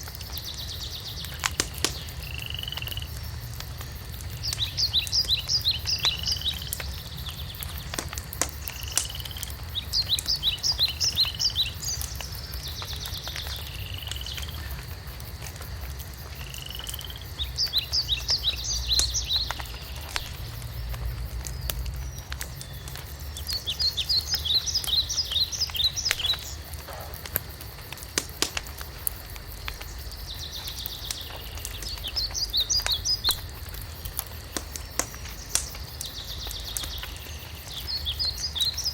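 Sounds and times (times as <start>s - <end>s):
songbird singing: 0.0s - 15.7s, 16.4s - 38.9s
wood fire crackling and popping: 0.0s - 38.9s.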